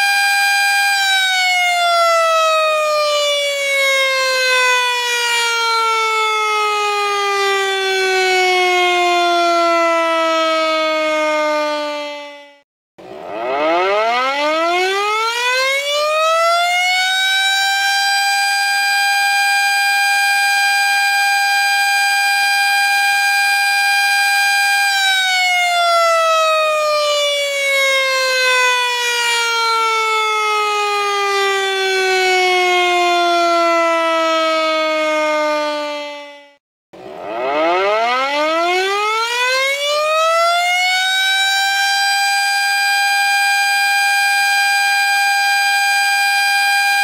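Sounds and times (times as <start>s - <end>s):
warning siren wailing: 0.0s - 47.0s.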